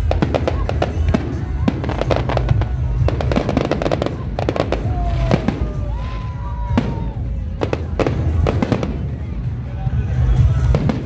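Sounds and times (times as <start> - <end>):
fireworks bangs and crackles: 0.0 - 11.0
whistling fireworks: 0.0 - 11.0.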